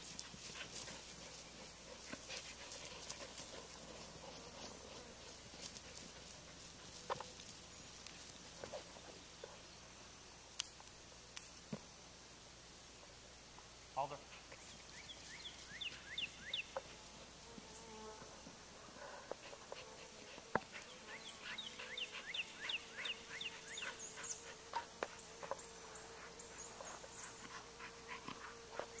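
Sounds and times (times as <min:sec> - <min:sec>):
insect buzz: 0:00.0 - 0:29.0.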